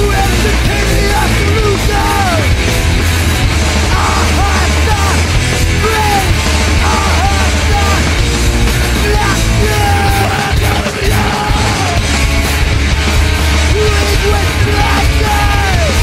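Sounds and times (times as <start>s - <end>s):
distorted punk rock music: 0.0s - 16.0s.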